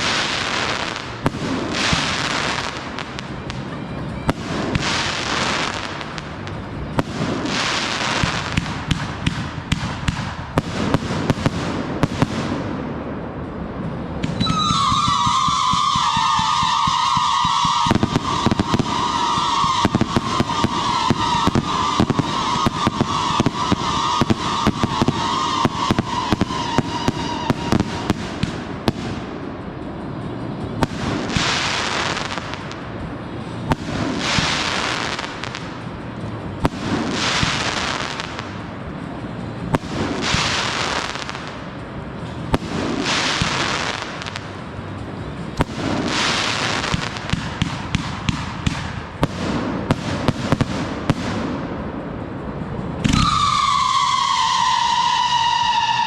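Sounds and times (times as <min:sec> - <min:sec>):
sharp firework cracks: 0:00.0 - 0:13.3, 0:14.0 - 0:56.0
fireworks crackling pops: 0:00.0 - 0:56.0
fireworks hissing bursts: 0:00.0 - 0:56.0
high whistling firework: 0:00.0 - 0:56.0.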